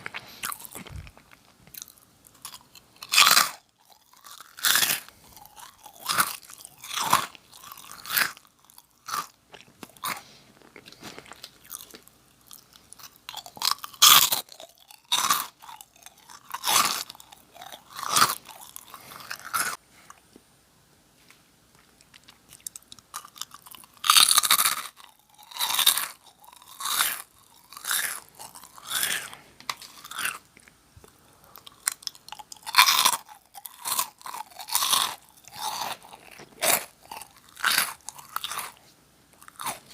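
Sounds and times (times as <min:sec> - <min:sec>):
crackers crunching: 0:00.0 - 0:20.2, 0:21.7 - 0:39.9
soft chewing: 0:00.0 - 0:20.5, 0:21.2 - 0:39.9.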